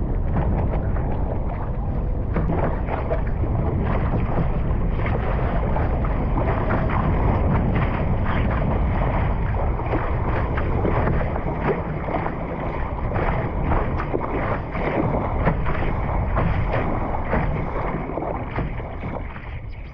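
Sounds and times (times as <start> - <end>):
water splashing against hull: 0.0 - 19.9
wind rushing on microphone: 0.0 - 19.9.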